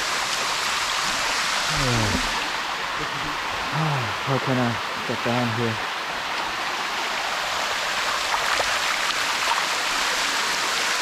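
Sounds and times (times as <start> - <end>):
waterfall water rushing: 0.0 - 11.0.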